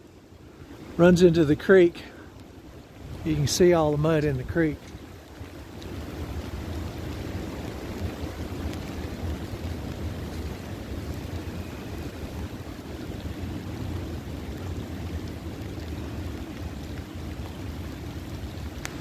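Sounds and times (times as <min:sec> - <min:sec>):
creek water flowing: 0:00.0 - 0:19.0
wind rumble on microphone: 0:00.0 - 0:19.0.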